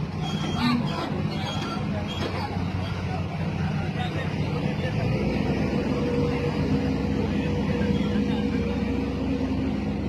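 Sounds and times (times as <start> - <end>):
diesel engine running under load: 0.0 - 10.0.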